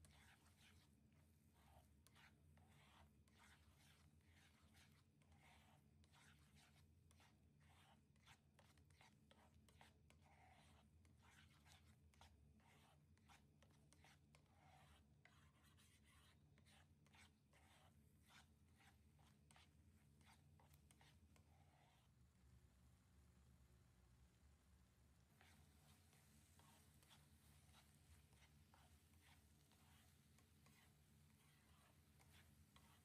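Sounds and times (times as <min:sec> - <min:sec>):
faint rapid scratching: 0:00.0 - 0:22.2, 0:25.3 - 0:33.0.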